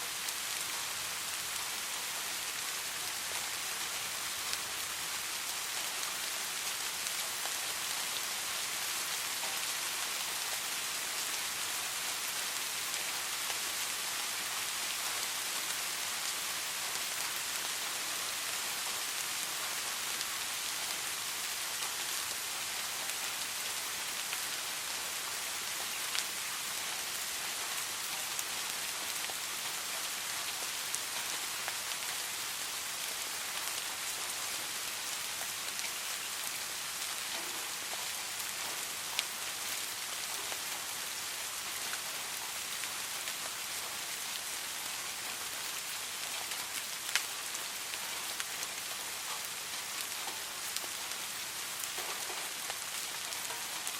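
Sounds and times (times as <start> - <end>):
soft rain falling: 0.0 - 53.9.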